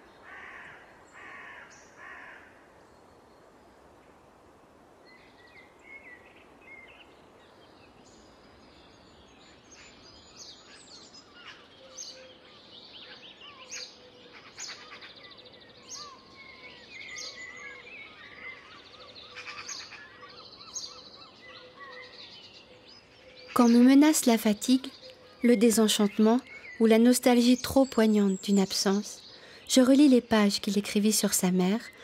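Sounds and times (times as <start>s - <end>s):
faint steady hiss: 0.0s - 32.0s
small birds chirping: 5.0s - 32.0s.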